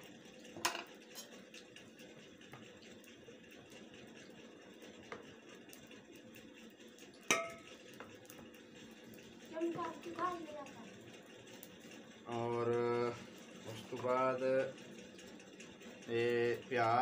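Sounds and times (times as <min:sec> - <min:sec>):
wood fire hissing: 0:00.0 - 0:17.0.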